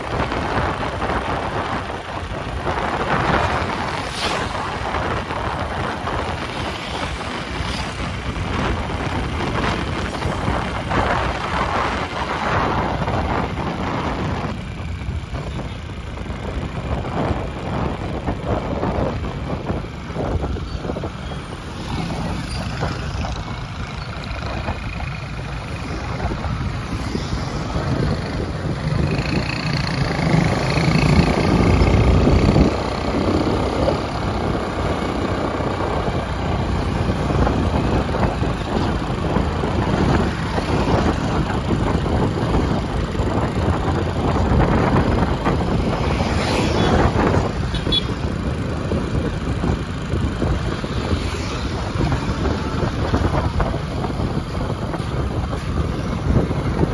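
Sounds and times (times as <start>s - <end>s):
engine rumble and road noise: 0.0s - 56.9s
passing motorbikes and cars: 0.0s - 56.9s
wind buffeting microphone: 0.0s - 56.9s.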